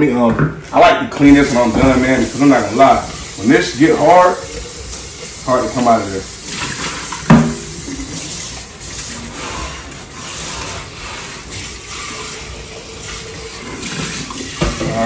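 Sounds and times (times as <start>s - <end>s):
faucet water rushing into pitcher: 1.2s - 15.0s.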